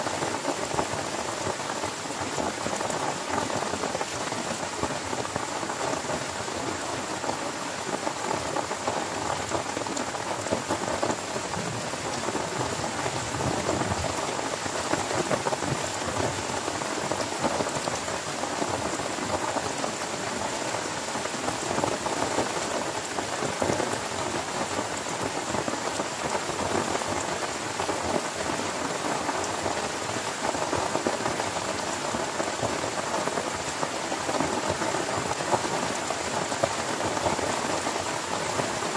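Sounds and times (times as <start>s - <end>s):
rain pattering on a tent: 0.0s - 38.9s.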